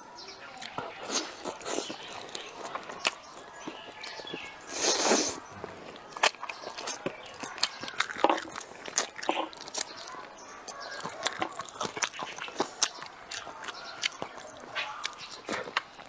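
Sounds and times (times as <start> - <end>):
wet chewing and biting: 0.6 - 16.0.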